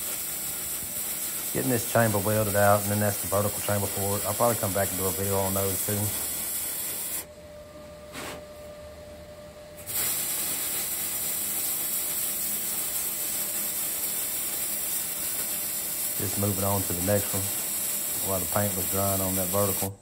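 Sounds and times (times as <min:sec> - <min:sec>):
welding arc hissing: 0:00.0 - 0:07.3, 0:09.8 - 0:20.0.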